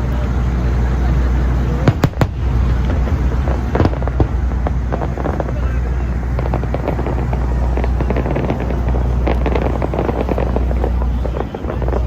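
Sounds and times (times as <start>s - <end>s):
low rumble: 0.0s - 12.0s
fireworks crackling pops: 1.8s - 12.0s.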